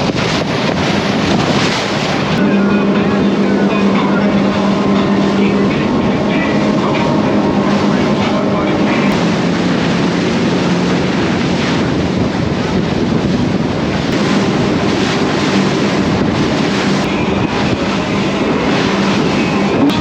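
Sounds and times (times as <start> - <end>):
powerboat engines droning: 0.0 - 20.0
water rushing past hull: 0.0 - 20.0
wind buffeting microphone: 0.0 - 20.0.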